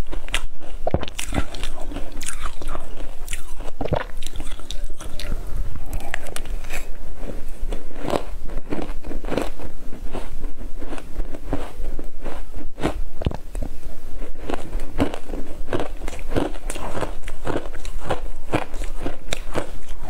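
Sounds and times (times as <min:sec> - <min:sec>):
crunching and chewing frost: 0:00.0 - 0:20.0.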